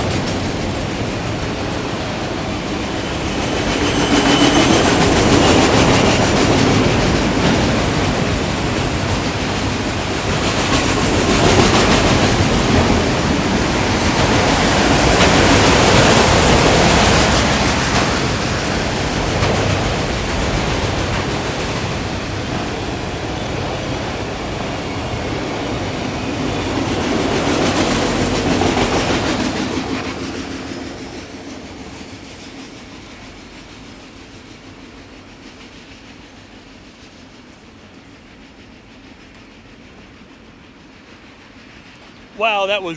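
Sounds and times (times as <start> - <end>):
train wheels clacking over rails: 0.0 - 42.4.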